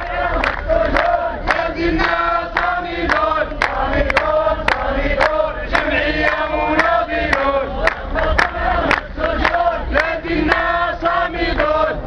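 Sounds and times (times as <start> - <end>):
crowd chanting slogans: 0.0 - 12.0.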